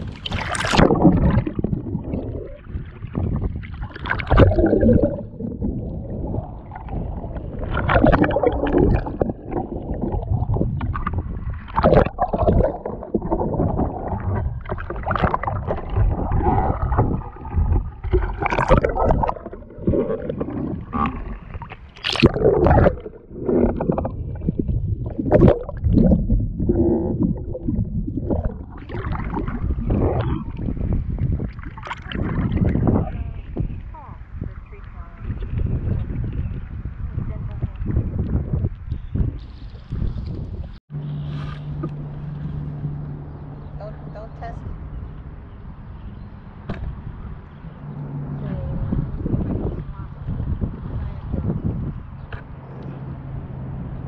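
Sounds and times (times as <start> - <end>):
water splashing around kayak hull: 0.0 - 43.5.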